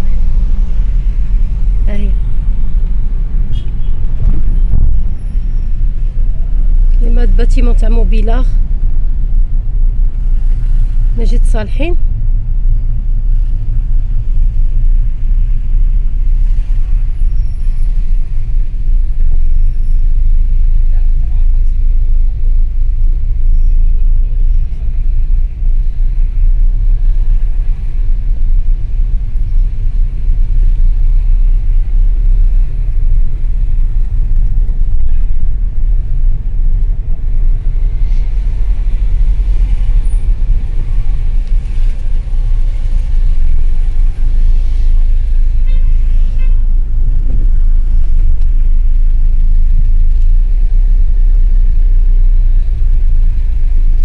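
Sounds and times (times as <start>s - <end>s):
car interior low rumble: 0.0s - 54.0s.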